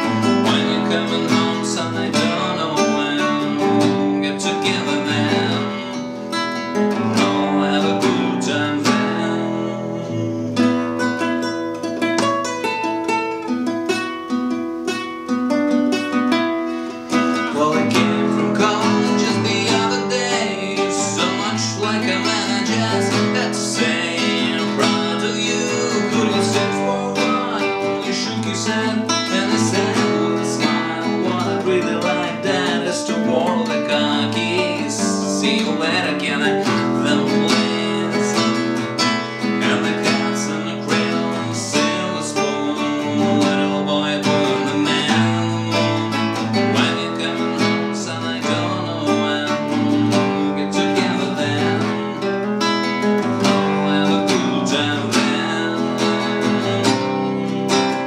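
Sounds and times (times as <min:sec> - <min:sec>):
classical guitar strumming chords: 0:00.0 - 0:58.0.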